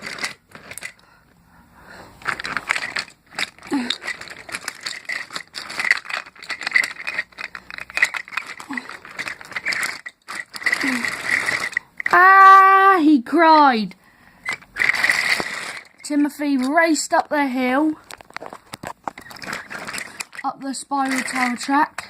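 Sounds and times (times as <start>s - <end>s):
toy train rattling and clicking: 0.0s - 1.1s, 2.2s - 22.0s.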